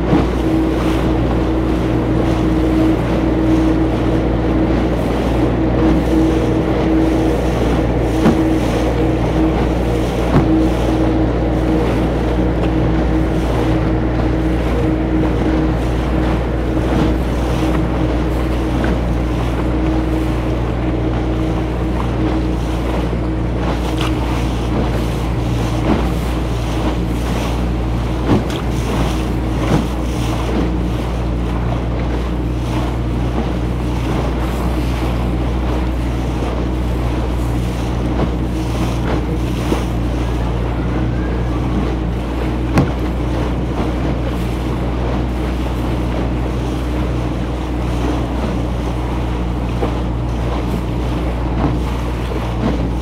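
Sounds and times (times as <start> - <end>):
boat motor running: 0.0 - 53.0
water splashing along hull: 0.0 - 53.0
wind buffeting microphone: 0.0 - 53.0.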